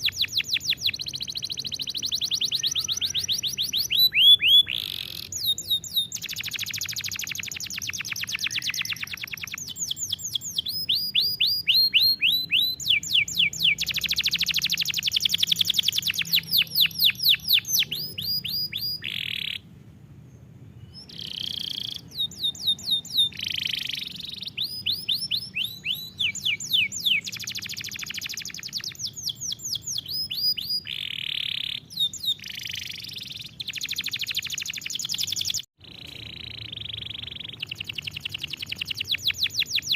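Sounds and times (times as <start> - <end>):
canary singing: 0.0 - 19.7, 20.7 - 39.9.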